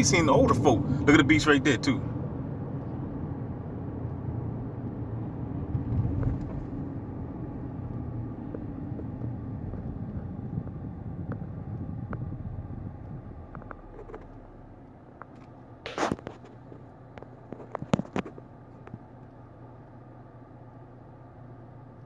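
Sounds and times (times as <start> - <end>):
car passing rumble: 0.0 - 19.0.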